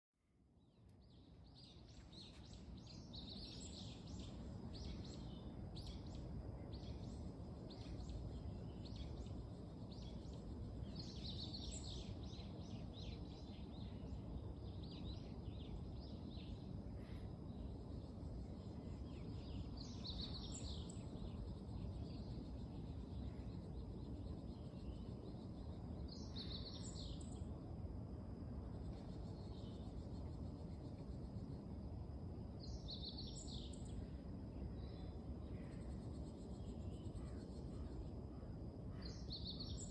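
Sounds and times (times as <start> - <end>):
bird chirping song: 0.3 - 39.9
low background rumble: 0.5 - 39.9.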